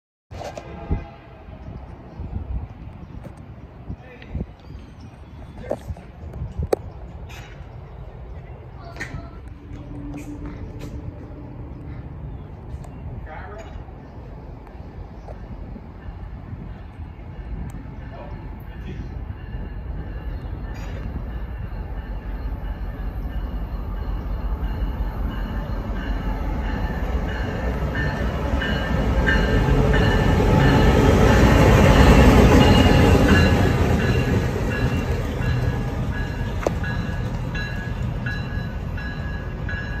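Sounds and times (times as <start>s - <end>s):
locomotive engine rumble: 5.5s - 40.0s.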